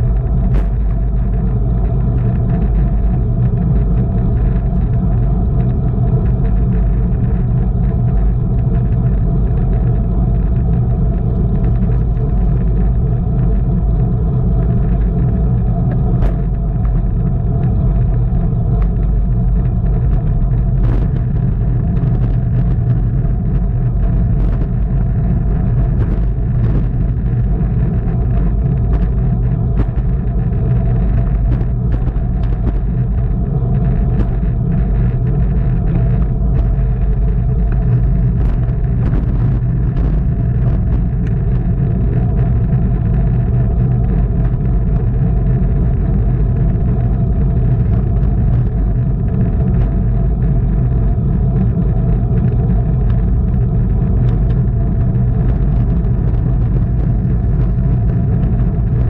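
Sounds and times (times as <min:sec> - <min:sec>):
faint steady hum: 0:00.0 - 0:59.0
tyre and road noise: 0:00.0 - 0:59.0
wind rumble on microphone: 0:00.0 - 0:59.0.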